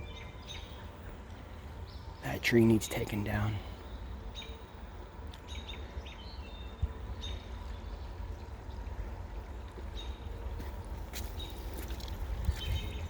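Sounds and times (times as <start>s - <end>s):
birds chirping: 0.0s - 13.0s
steady low rumble: 0.0s - 13.0s.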